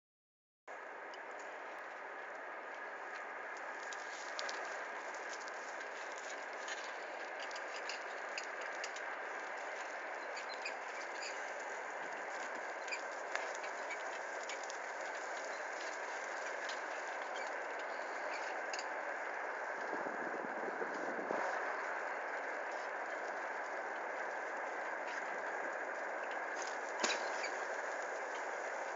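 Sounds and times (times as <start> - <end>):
bicycle tyres rolling on dirt: 0.8 - 28.9
bike rattles and clicks: 0.8 - 28.9.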